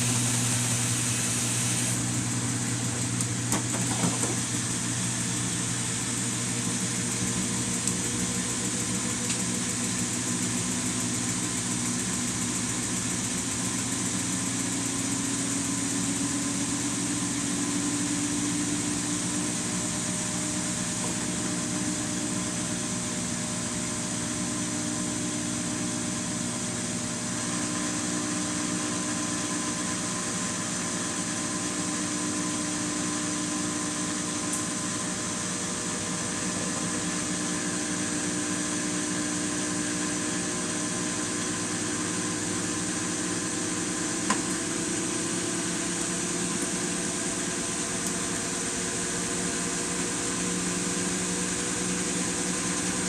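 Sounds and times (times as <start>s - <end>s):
washing machine humming: 0.0s - 53.0s.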